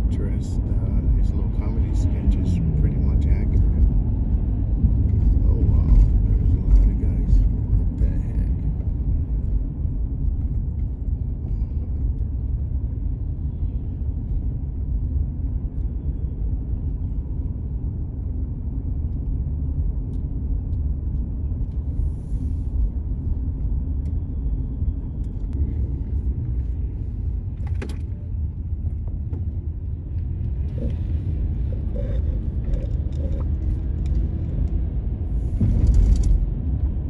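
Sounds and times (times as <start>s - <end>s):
car driving road noise: 0.0s - 37.0s.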